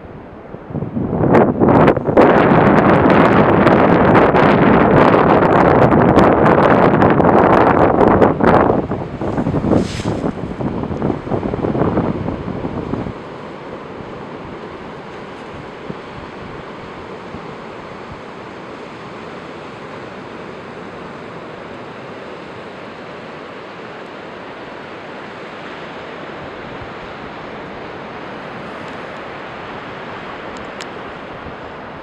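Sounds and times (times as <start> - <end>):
surf breaking on beach: 1.4 - 32.0.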